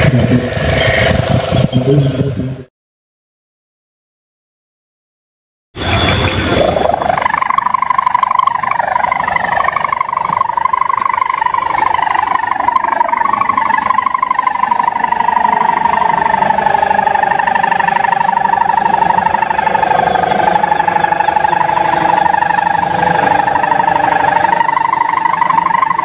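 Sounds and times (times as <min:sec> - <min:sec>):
kite hummer droning: 0:00.0 - 0:02.7, 0:05.8 - 0:26.0.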